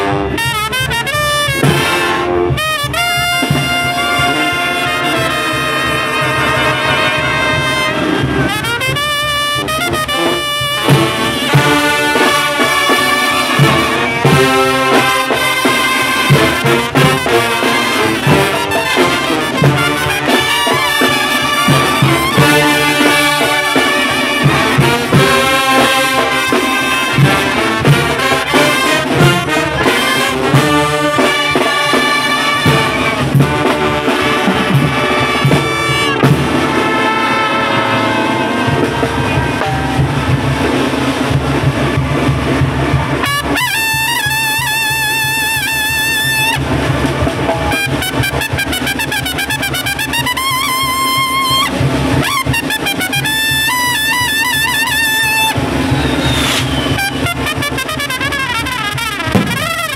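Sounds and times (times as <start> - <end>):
brass band playing: 0.0 - 59.9
drums steady beat: 0.0 - 59.9.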